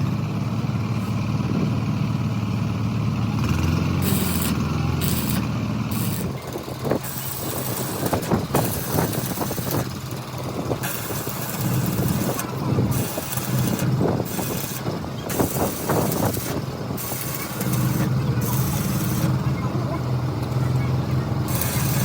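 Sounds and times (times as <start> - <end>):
large engine droning: 0.0 - 22.0.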